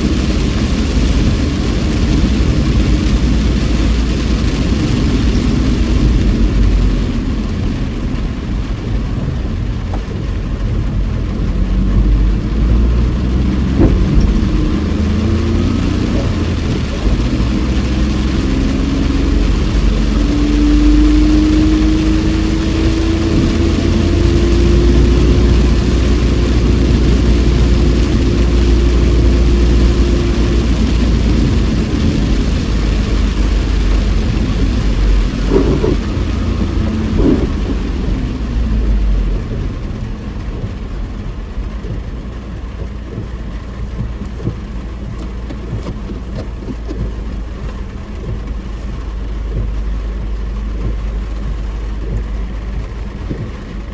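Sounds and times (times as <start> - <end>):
car engine and road rumble: 0.0 - 53.9
rain hiss on wet road: 0.0 - 53.9.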